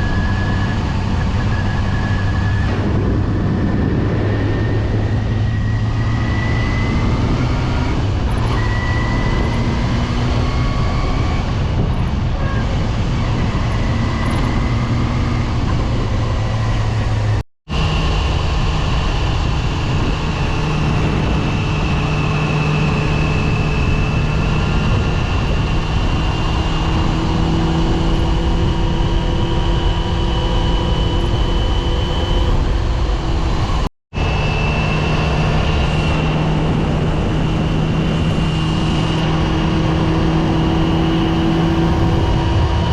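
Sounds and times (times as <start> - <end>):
motorcycle engine cruising: 0.0 - 42.9
wind noise: 0.0 - 42.9.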